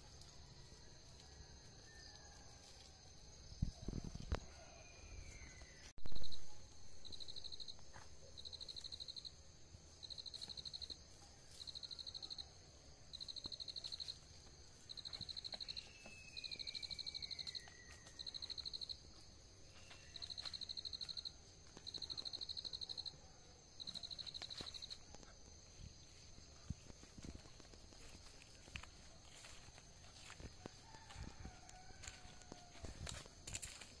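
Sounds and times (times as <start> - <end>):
high insect whine: 0.0 - 34.0.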